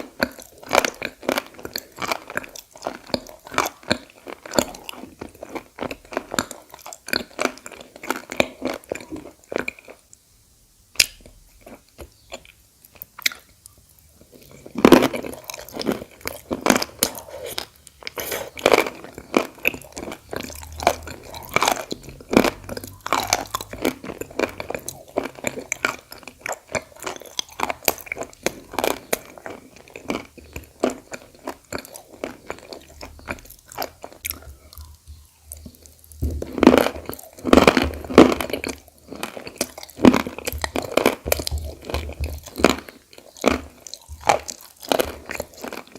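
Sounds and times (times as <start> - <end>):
chewing dry crunches: 0.0 - 10.2, 11.0 - 45.9.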